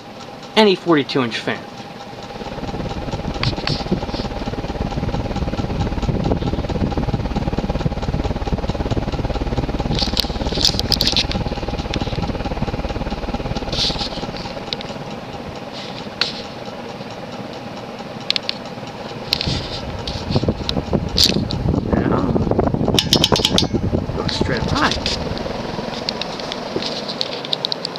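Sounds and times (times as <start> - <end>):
fan motor hum: 0.0 - 27.9
rush of fan air: 0.0 - 27.9.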